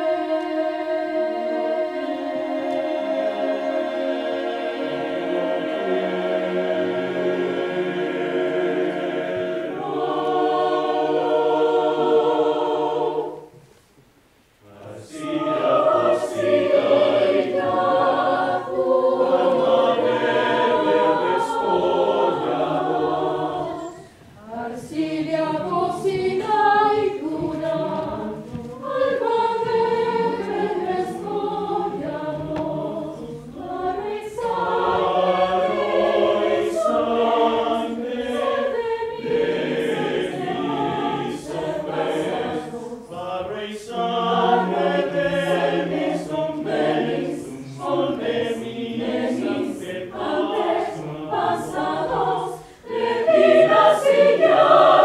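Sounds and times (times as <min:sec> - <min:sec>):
mixed choir singing: 0:00.0 - 0:13.8, 0:14.6 - 0:55.0.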